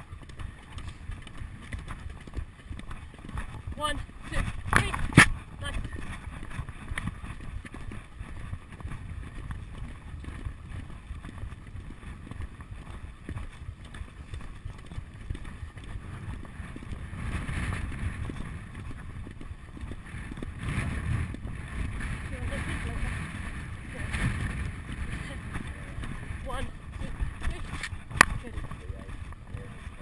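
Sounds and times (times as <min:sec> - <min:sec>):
horse hoofbeats thudding: 0:00.0 - 0:30.0
wind rushing over microphone: 0:00.0 - 0:30.0.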